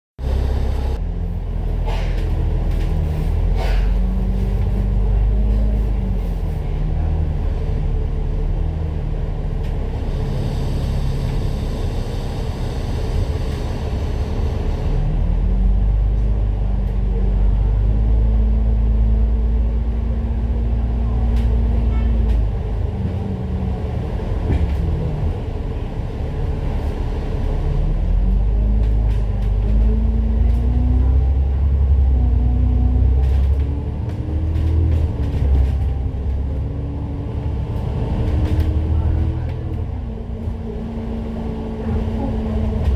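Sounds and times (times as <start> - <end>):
bus diesel engine rumbling: 0.2 - 42.9.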